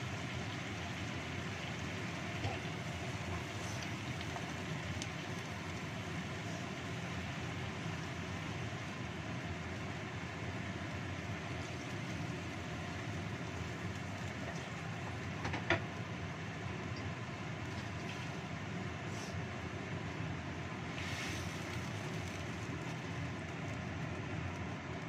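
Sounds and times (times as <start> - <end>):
broth simmering: 0.0 - 25.0
gas burner hiss and rumble: 0.0 - 25.0.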